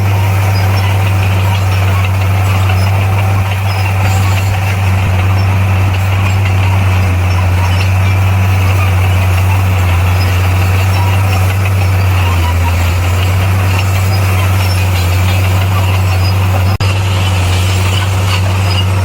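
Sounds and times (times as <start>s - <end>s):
bulldozer diesel engine droning: 0.0s - 19.0s.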